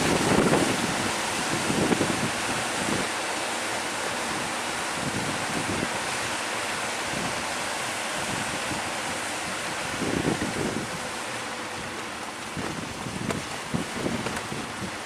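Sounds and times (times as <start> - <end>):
wind blowing across microphone: 0.0 - 3.4, 4.0 - 15.0
sea: 0.0 - 15.0.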